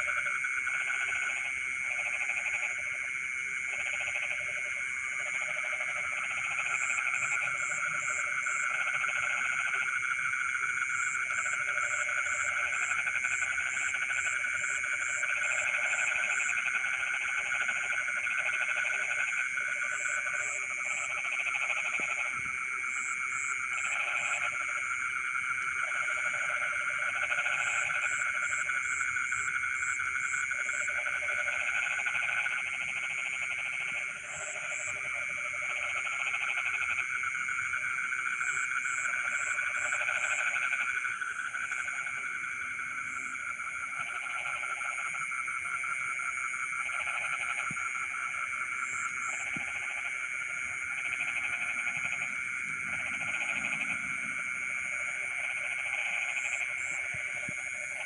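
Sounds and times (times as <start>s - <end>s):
frogs trilling in chorus: 0.0s - 58.0s
lower pulsing frog calls: 0.0s - 58.0s.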